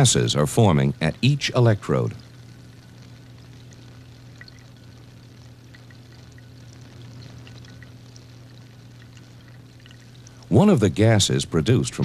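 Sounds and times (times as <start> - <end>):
gas bubbles fizzing: 0.0 - 12.0
steady low hum: 0.0 - 12.0.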